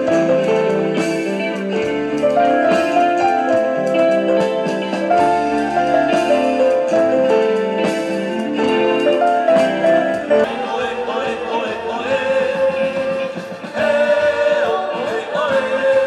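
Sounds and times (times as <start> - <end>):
drums: 0.0 - 16.0
electric guitar: 0.0 - 16.0
keyboard chords: 0.0 - 16.0.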